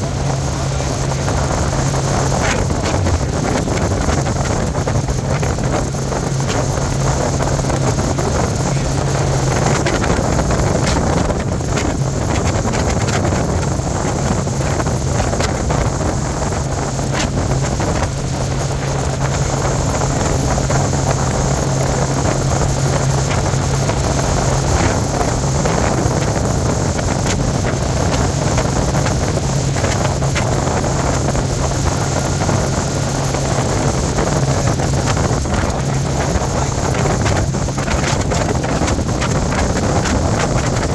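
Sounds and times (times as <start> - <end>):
motorboat engine humming: 0.0 - 40.9
wind buffeting microphone: 0.0 - 40.9.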